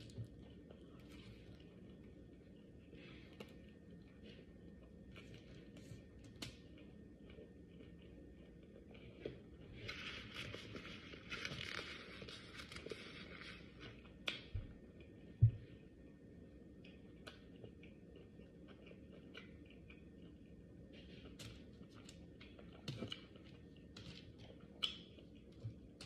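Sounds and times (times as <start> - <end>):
quiet chewing: 0.0 - 26.0.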